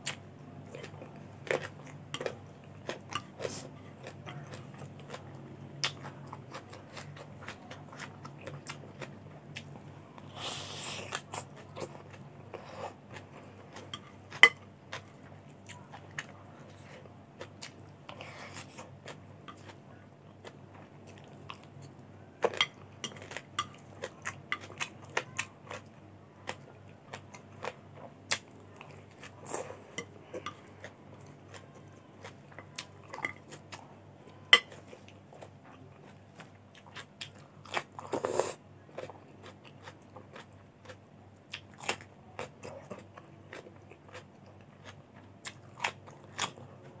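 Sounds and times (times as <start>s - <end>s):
chewing and crunching: 0.0s - 47.0s.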